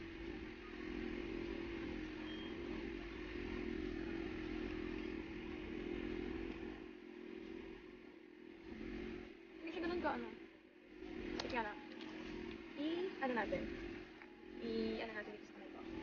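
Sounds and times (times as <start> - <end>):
low rumble: 0.0 - 16.0
motor-like hum: 0.0 - 16.0.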